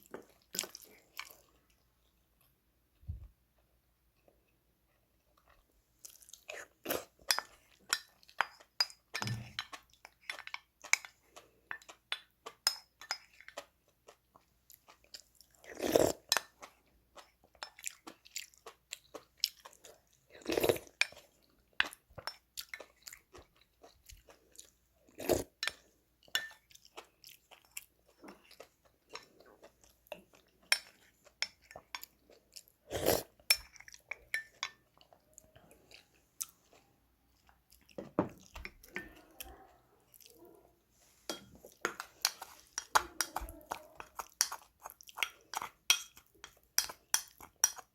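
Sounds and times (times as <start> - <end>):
person crunching and chewing: 0.0 - 1.8, 5.4 - 39.0, 41.1 - 47.9.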